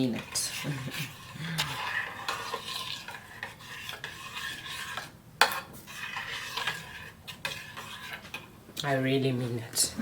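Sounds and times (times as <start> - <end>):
spoon scraping a pan: 0.0 - 9.9.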